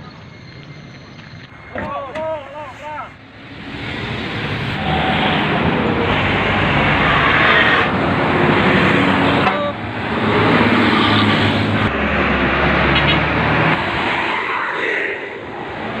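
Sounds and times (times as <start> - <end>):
bus passing: 0.0 - 16.0.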